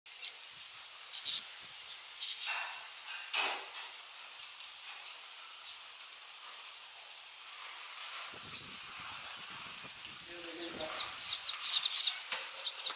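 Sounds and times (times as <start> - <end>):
steady hiss: 0.1 - 12.9
palm fronds rustling: 1.3 - 12.9.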